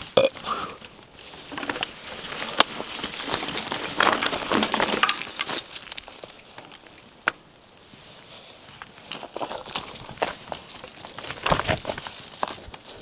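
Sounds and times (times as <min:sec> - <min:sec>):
bike tyres crunching leaves and stones: 0:00.0 - 0:13.0.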